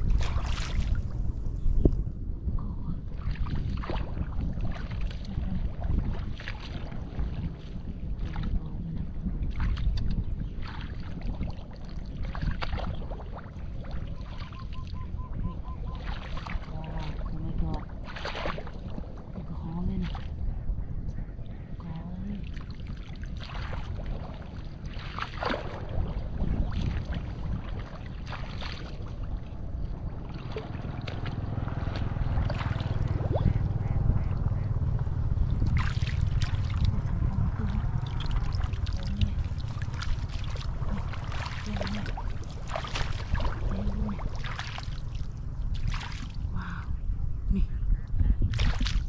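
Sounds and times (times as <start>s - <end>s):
floodwater sloshing and splashing: 0.0s - 1.8s, 2.9s - 20.6s, 21.4s - 47.0s, 48.4s - 49.0s
wind rumble on microphone: 0.0s - 49.0s.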